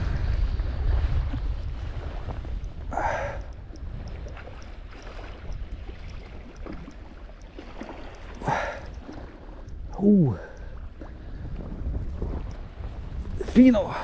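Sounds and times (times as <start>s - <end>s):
moving water: 0.0s - 14.0s
wind rumbling on microphone: 0.0s - 14.0s.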